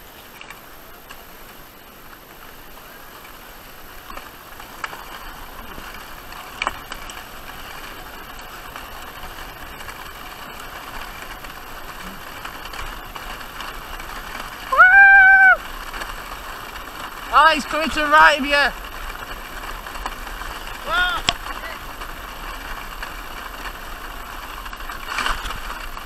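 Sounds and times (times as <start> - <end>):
sledge sliding over snow: 0.0 - 26.0.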